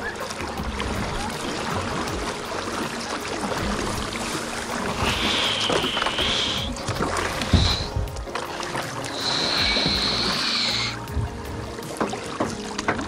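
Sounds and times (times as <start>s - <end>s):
paddle strokes splashing: 0.0s - 13.0s
water rushing over riffle: 0.0s - 13.0s.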